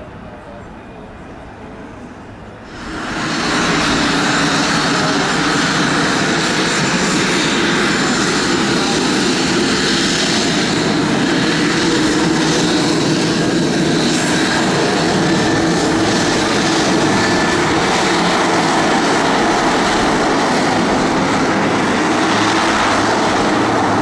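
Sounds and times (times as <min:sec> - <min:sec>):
turboprop engines running: 0:00.0 - 0:24.0.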